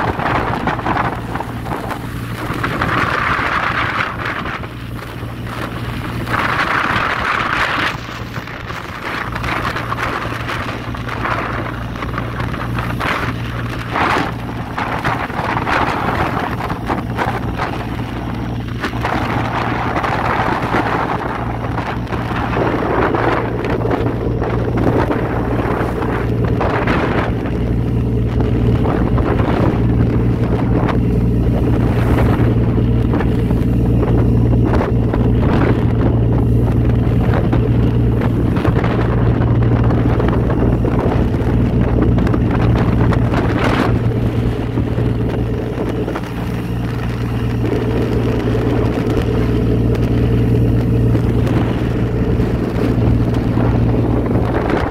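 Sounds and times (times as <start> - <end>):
boat engine running: 0.0 - 54.9
water rushing along hull: 0.0 - 54.9
wind buffeting microphone: 0.0 - 54.9.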